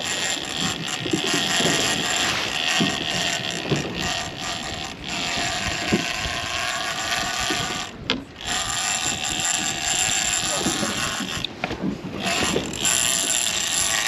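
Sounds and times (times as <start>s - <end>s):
boat motor running: 0.0s - 14.0s
water noise: 0.0s - 14.0s
wind: 0.0s - 14.0s.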